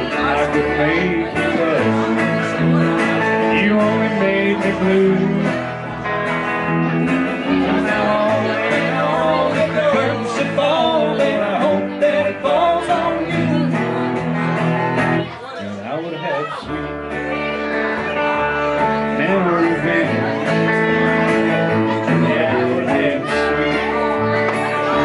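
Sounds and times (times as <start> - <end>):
plucked upright bass: 0.0 - 15.3, 16.7 - 25.0
electric guitar: 0.0 - 25.0
second guitar: 0.0 - 25.0.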